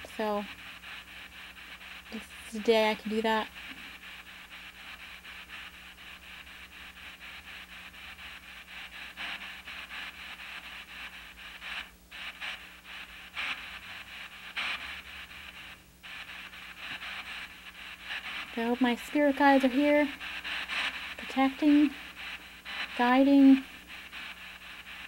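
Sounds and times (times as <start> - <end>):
chopped bursts of radio static: 0.0 - 25.0.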